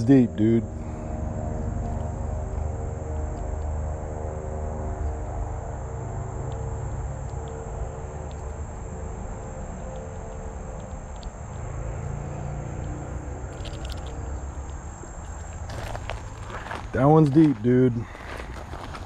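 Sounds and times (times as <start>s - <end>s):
low rumble: 0.0s - 17.0s
high insect drone: 0.0s - 19.0s.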